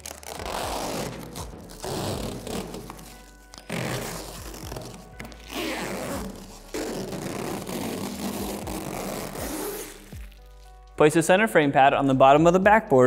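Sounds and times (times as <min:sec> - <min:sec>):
plastic film crinkling: 0:00.0 - 0:11.0
quiet background music: 0:00.0 - 0:13.0.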